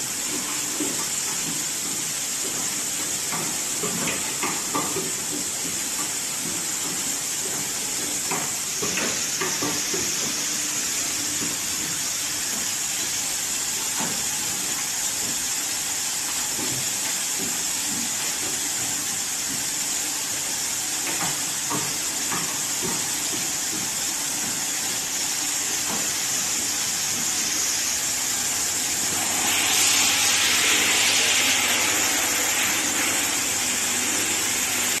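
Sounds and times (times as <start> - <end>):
machine hissing: 0.0 - 35.0.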